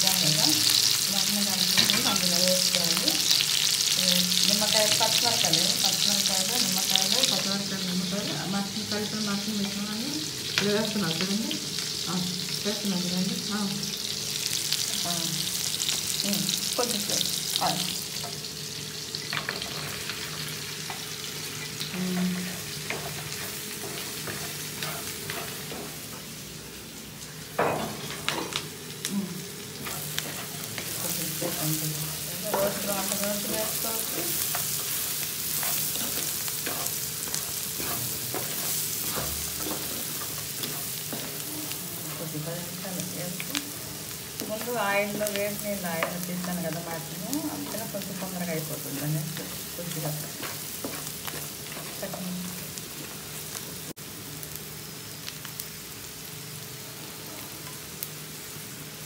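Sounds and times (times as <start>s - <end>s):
meat frying in hot oil: 0.0s - 59.0s.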